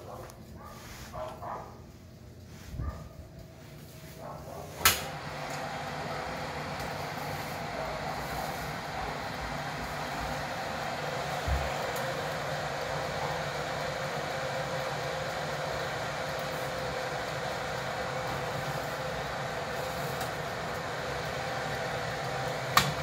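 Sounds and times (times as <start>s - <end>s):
oven fan whirring: 0.0s - 23.0s.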